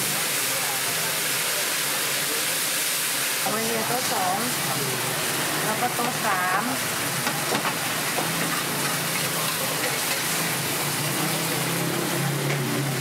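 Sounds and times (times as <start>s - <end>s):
oysters sizzling in hot oil: 0.0s - 13.0s.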